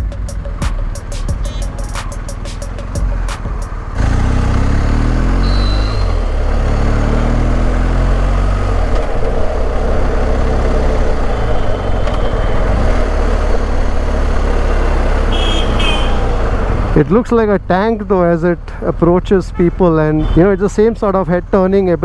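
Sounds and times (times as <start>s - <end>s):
motorcycle engine accelerating: 0.0s - 18.7s
low riding noise: 0.0s - 22.0s.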